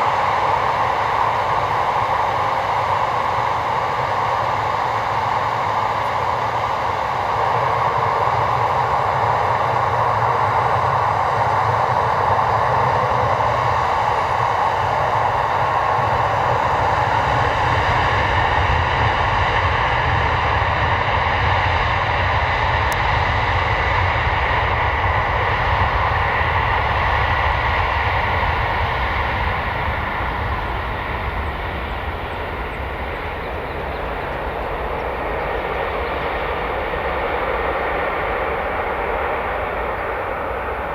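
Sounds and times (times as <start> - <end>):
jet airliner taking off: 0.0 - 40.9.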